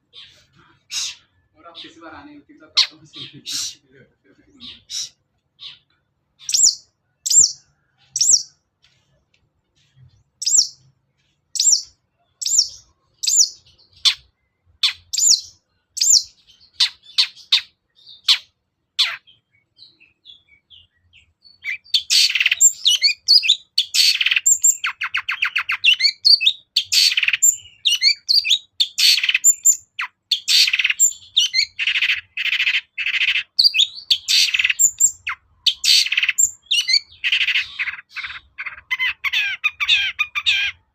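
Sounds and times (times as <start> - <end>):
bird harsh chattering trill: 0.1 - 3.9, 4.6 - 7.6, 8.2 - 8.5, 10.4 - 10.8, 11.6 - 19.3, 21.6 - 40.9.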